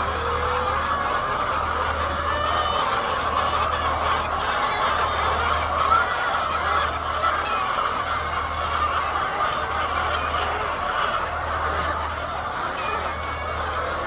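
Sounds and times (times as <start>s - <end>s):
hens clucking: 0.0s - 14.0s.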